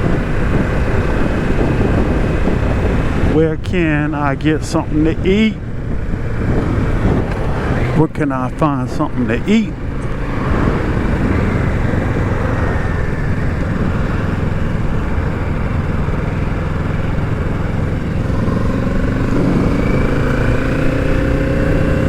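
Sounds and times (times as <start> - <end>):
motorcycle engine running: 0.0 - 22.0
wind and road rush: 0.0 - 22.0.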